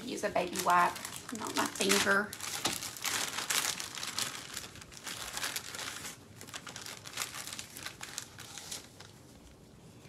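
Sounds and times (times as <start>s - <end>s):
plastic packet crinkling: 0.0s - 9.2s.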